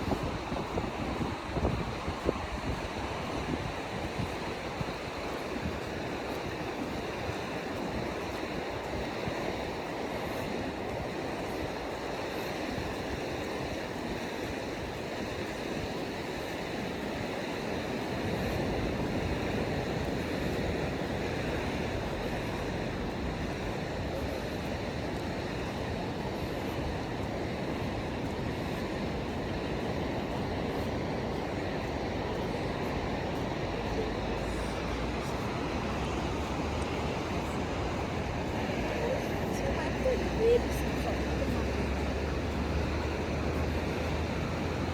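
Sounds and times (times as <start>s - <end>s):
waves breaking on beach: 0.0s - 44.9s
wind on microphone: 0.0s - 44.9s.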